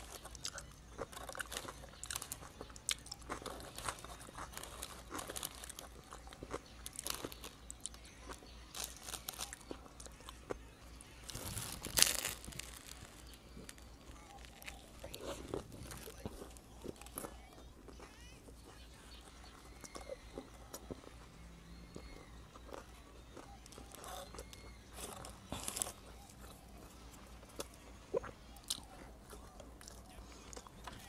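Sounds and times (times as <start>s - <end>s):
chewing bread roll with crunches: 0.0s - 31.0s.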